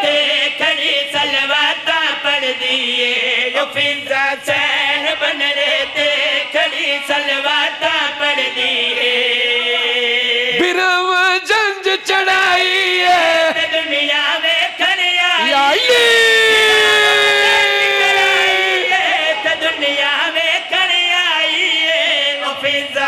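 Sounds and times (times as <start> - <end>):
men singing devotional refrain: 0.0 - 23.0.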